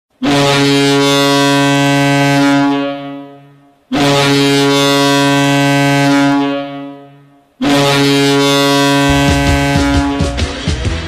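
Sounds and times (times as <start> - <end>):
goal horn blast: 0.2 - 11.0.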